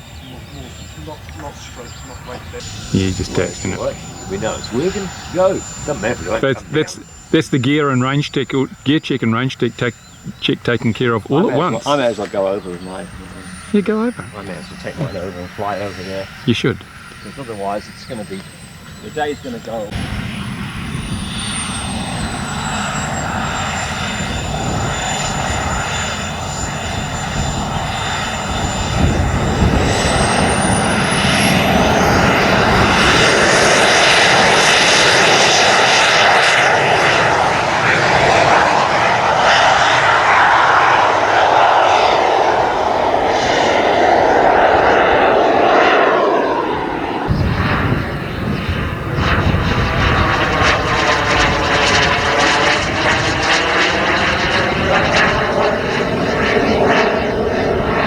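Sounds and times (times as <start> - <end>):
model jet turbine whine: 0.0 - 58.0.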